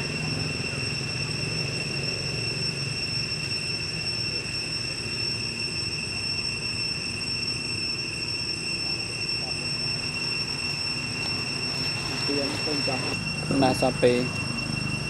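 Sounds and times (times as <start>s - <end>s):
steady high-pitched whine: 0.0s - 15.0s.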